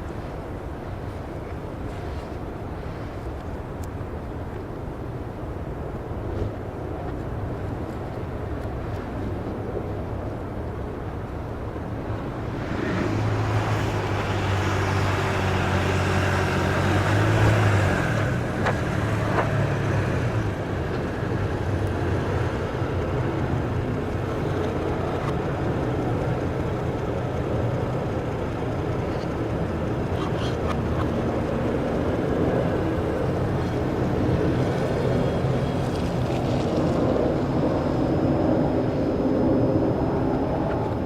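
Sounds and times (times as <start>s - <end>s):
snowstorm street noise: 0.0s - 41.0s.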